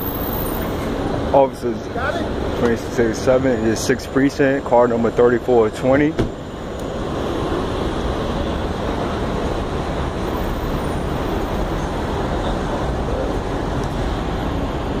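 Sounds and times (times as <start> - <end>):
bus engine running: 0.0 - 15.0
street traffic noise: 0.0 - 15.0.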